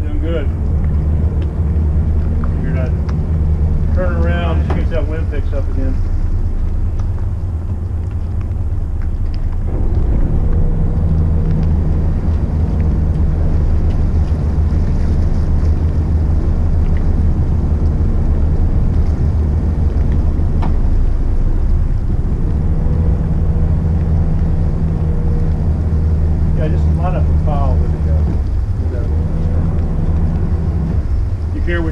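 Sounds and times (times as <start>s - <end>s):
boat diesel engines droning: 0.0s - 31.9s
higher steady hum: 0.0s - 31.9s.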